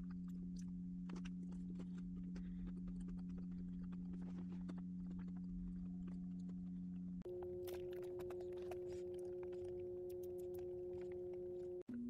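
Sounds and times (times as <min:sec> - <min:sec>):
chewing with wet mouth clicks: 0:00.0 - 0:11.2.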